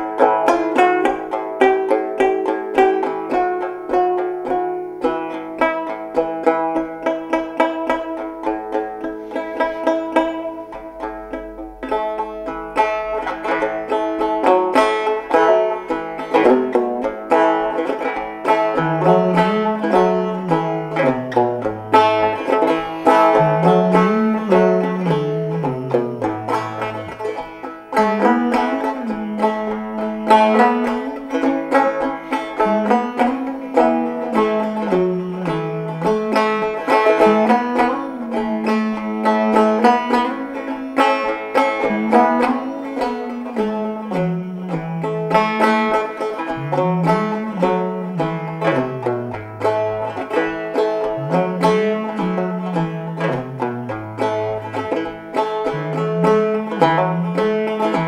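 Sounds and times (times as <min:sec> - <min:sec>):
banjo picking a tune: 0:00.0 - 0:58.0.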